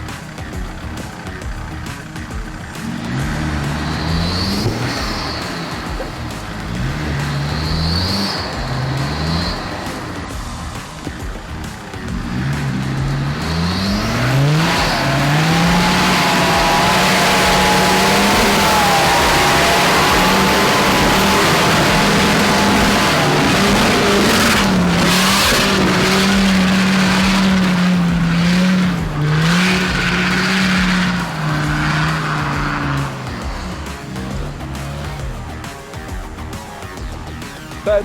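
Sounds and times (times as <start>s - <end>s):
roar of tyres and mud: 0.0s - 37.9s
engine revving hard: 0.0s - 38.0s.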